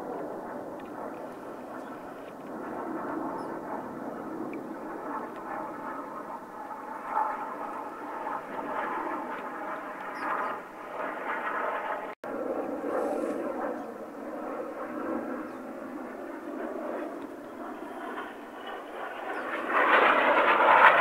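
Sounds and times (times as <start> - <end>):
distant jets passing overhead: 0.0 - 21.0.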